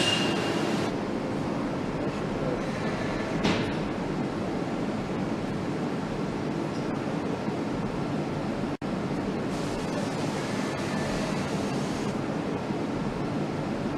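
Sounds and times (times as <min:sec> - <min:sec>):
factory machinery hum: 0:00.0 - 0:13.9.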